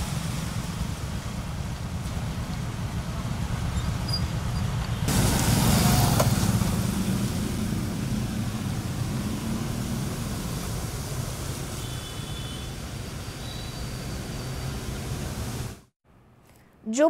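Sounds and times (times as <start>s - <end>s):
motorbike engines rumbling: 0.0s - 15.7s
hiss of traffic on water: 0.0s - 15.9s.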